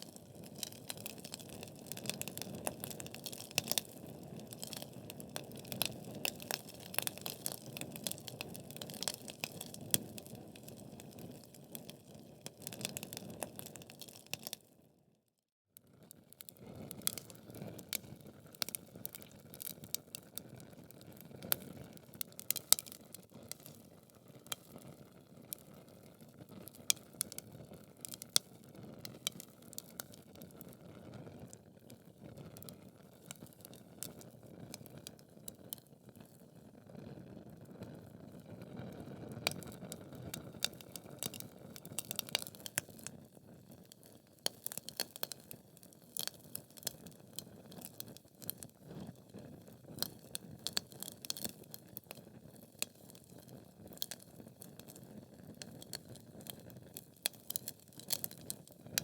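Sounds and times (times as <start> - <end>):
logs crackling and popping: 0.0 - 14.6, 16.5 - 30.8, 31.9 - 36.4, 39.4 - 59.0.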